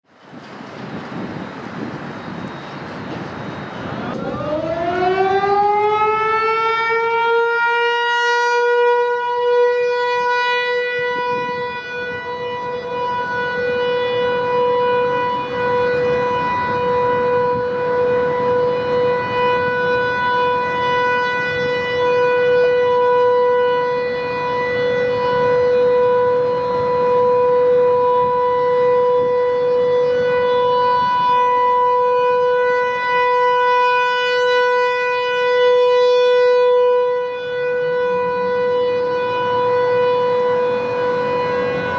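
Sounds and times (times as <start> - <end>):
warning siren winding up: 1.3 - 41.9.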